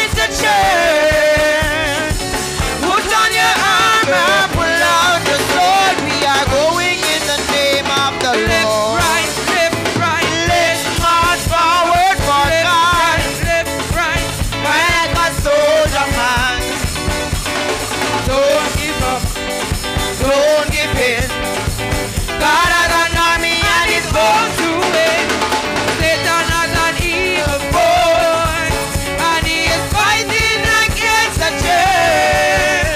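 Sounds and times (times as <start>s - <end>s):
drum beat: 0.0s - 32.9s
gospel choir singing: 0.0s - 32.9s
instrumental backing: 0.0s - 32.9s.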